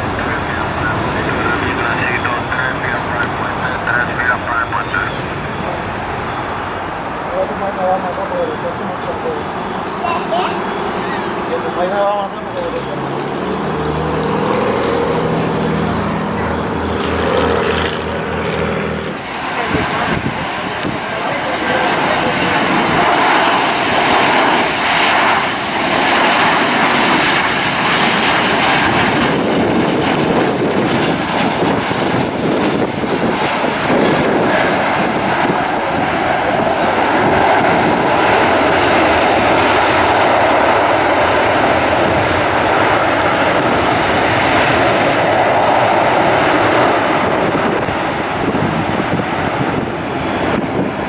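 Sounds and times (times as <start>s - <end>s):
jet engine fan whine: 0.0s - 51.0s
loud jet engine noise: 0.0s - 51.0s.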